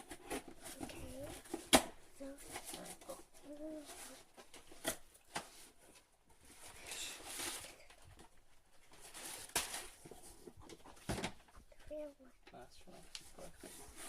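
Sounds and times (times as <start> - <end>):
cardboard and paper rustling: 0.0 - 12.2, 12.8 - 14.0.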